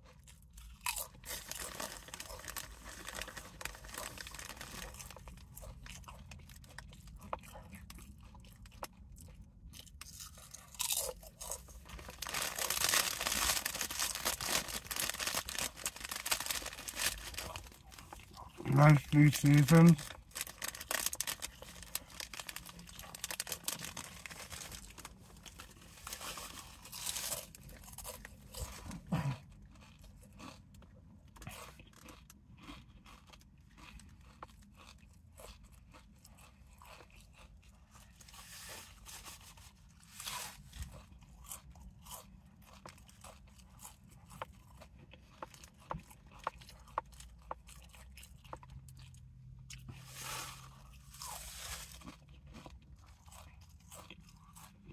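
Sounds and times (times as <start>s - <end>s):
tortilla chips crunching: 0.0s - 54.9s.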